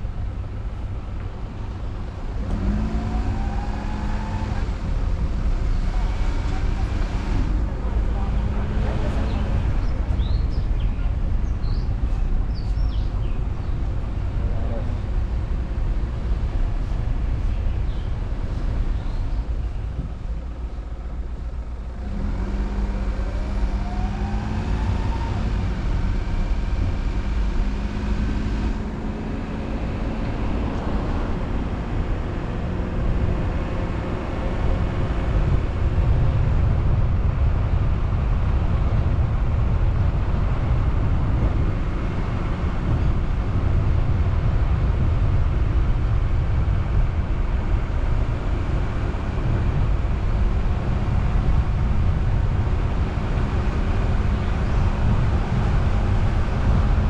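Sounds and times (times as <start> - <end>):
car engine accelerating: 0.0 - 57.0
tyre noise on road: 0.0 - 57.0.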